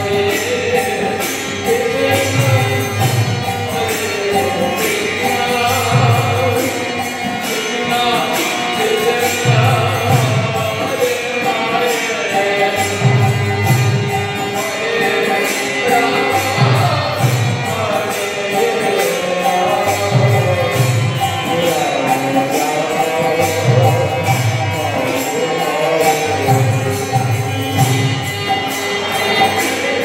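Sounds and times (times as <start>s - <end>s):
jingling hand cymbals: 0.0s - 30.0s.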